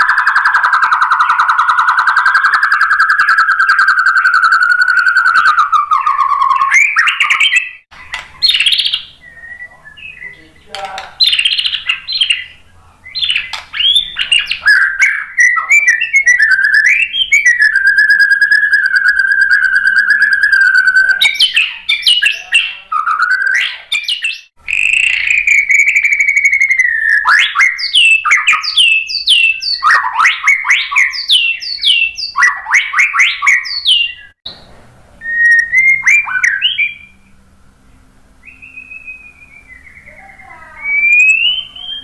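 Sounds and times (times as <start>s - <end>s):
songbird singing whistles: 0.0s - 10.6s, 11.2s - 34.4s, 35.2s - 37.3s, 38.4s - 42.0s.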